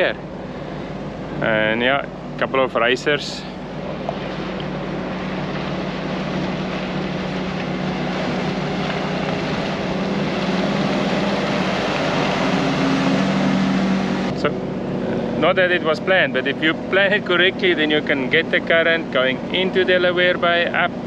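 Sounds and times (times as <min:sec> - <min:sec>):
boat engines droning: 0:00.0 - 0:21.0
rushing water: 0:00.0 - 0:21.0.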